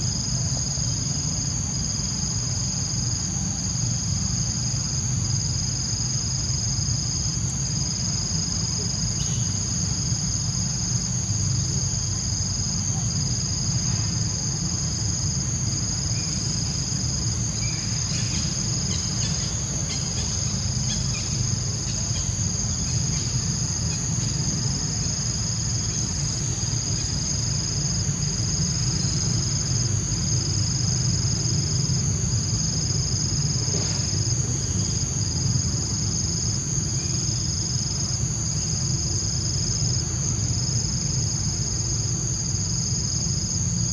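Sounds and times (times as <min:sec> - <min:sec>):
low steady rumble: 0:00.0 - 0:43.9
shrill of insects: 0:00.0 - 0:43.9.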